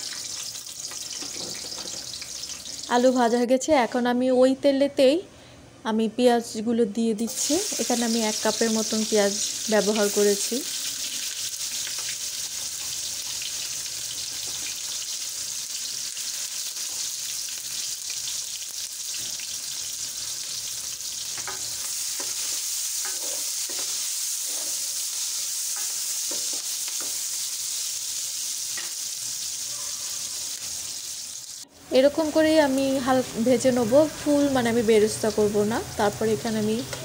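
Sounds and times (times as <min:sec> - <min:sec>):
onions sizzling in hot oil: 0:00.0 - 0:03.5, 0:07.3 - 0:36.9.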